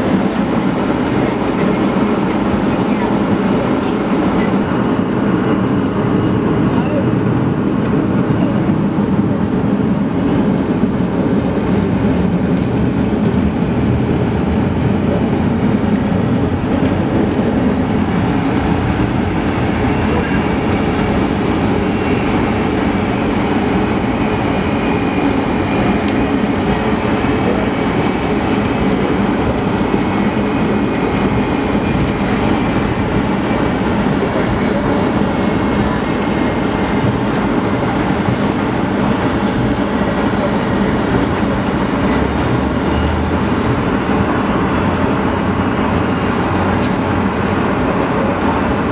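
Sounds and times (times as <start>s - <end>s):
aircraft cabin rumble: 0.0s - 48.9s
jet engines idling: 0.0s - 48.9s.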